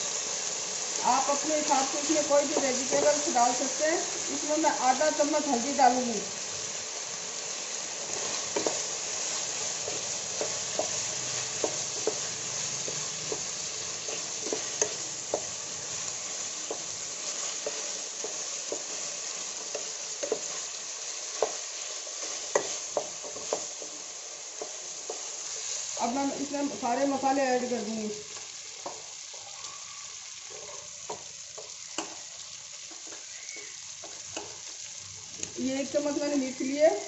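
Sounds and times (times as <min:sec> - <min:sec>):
vegetables sizzling in hot oil: 0:00.0 - 0:37.0.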